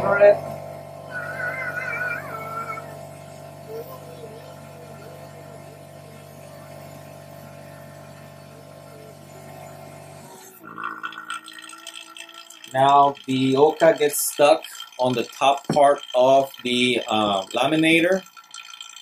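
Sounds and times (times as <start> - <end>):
vacuum pump humming: 0.0 - 19.0.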